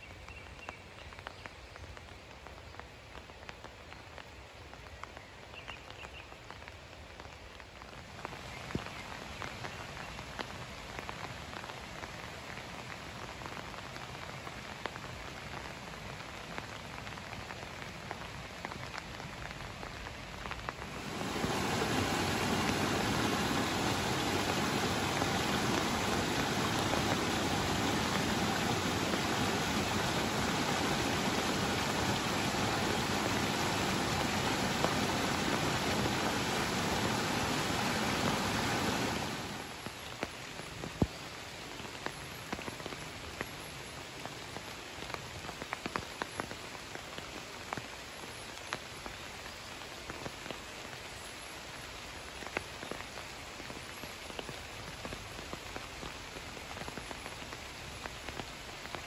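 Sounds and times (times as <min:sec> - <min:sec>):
rain drops ticking: 0:00.0 - 0:59.0
rain rushing: 0:00.0 - 0:59.0.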